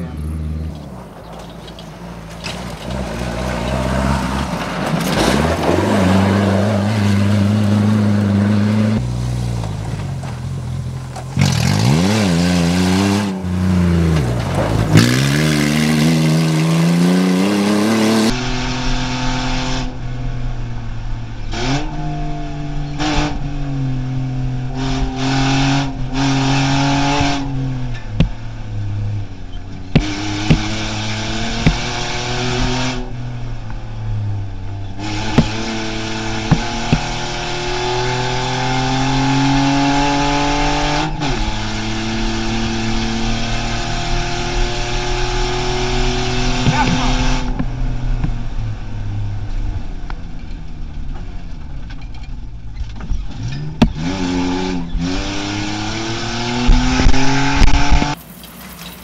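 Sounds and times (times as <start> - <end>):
rally car engines revving past: 0.0 - 59.0.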